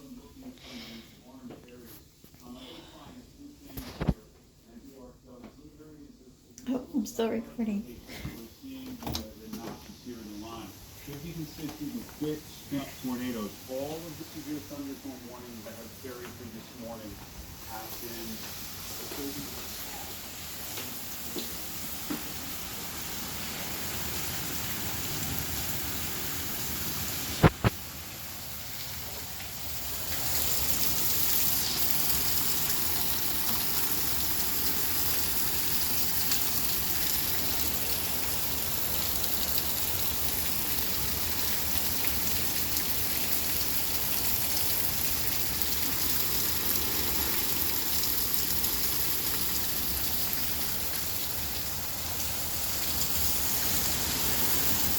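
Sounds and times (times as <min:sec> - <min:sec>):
heavy rain hissing: 0:07.9 - 0:54.9.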